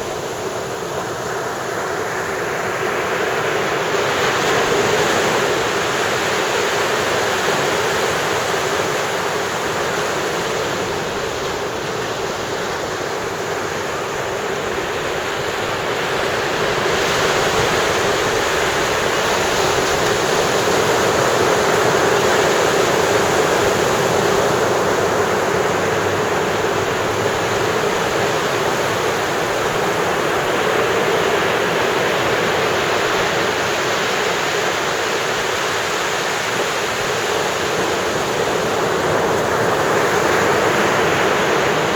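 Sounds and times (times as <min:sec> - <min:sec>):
waves breaking on a beach: 0:00.0 - 0:41.9.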